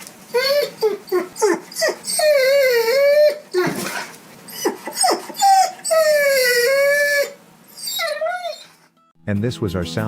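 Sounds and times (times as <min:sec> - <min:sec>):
dog yipping: 0:00.3 - 0:08.8
dog whining: 0:00.3 - 0:09.0.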